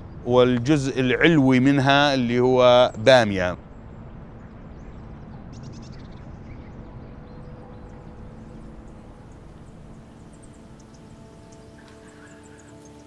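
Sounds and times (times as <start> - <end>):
soft sustained music notes: 0.0 - 13.0.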